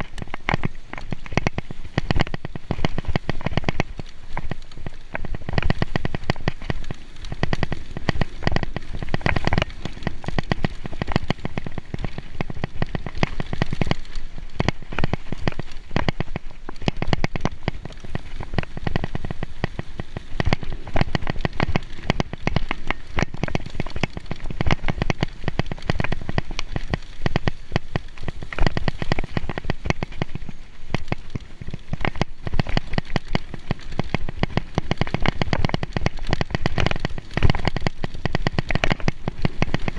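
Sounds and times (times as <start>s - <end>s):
bike tyres rattling over dirt: 0.0s - 39.9s.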